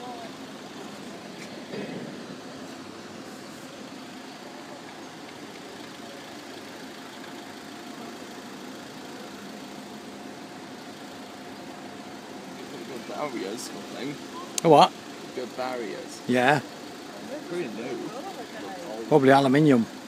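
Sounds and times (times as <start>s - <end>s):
motor droning: 0.0s - 19.0s.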